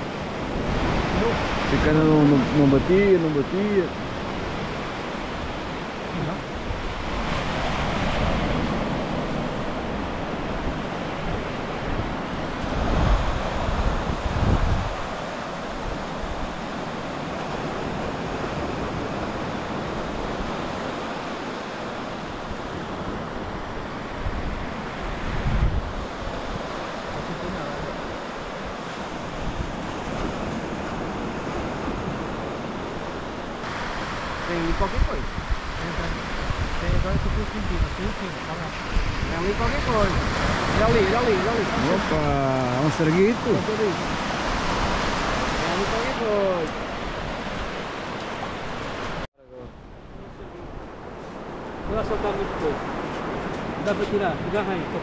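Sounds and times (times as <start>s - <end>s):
surf washing onto beach: 0.0s - 55.0s
wind rumbling on microphone: 0.0s - 55.0s.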